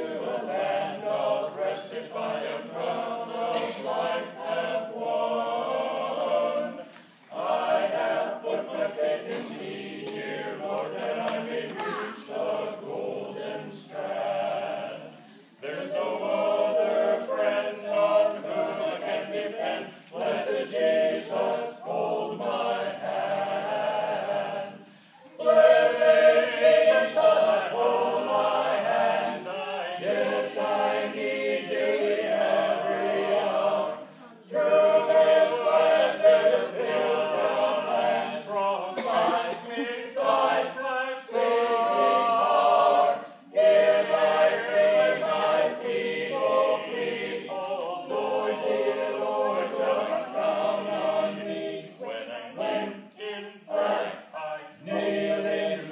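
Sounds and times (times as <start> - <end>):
voices singing a cappella: 0.0 - 55.9.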